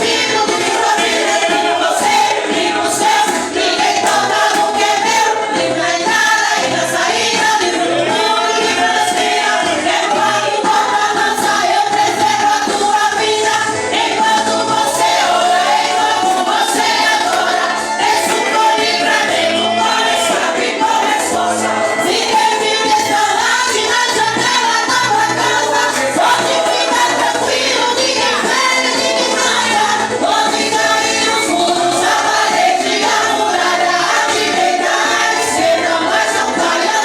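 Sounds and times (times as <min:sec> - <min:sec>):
instrumental accompaniment: 0:00.0 - 0:37.0
women singing a hymn: 0:00.0 - 0:37.0.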